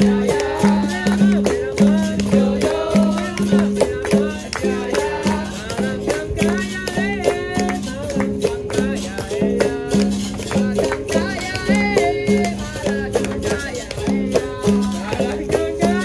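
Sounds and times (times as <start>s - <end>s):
berimbau rhythm: 0.0s - 16.0s
shaker rattle: 0.0s - 16.0s
voices singing: 0.0s - 16.0s.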